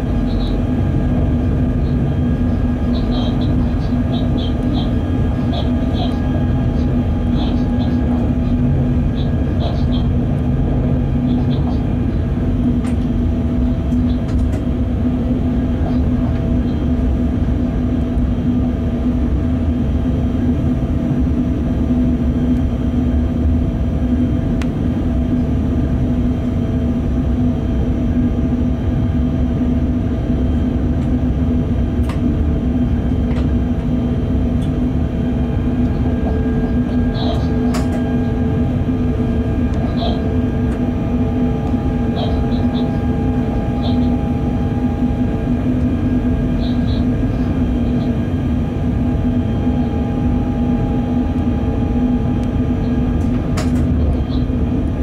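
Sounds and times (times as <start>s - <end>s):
locomotive cab hum: 0.0s - 55.0s.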